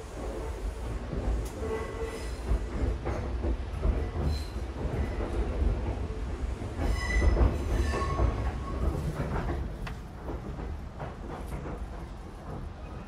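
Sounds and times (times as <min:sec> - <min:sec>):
train rumbling on rails: 0:00.0 - 0:13.0
train wheel knocks: 0:01.1 - 0:12.9.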